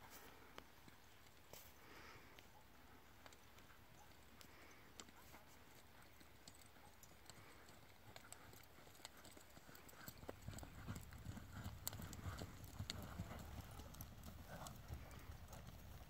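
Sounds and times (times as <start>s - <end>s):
horse hoofbeats on dirt: 3.1s - 16.0s.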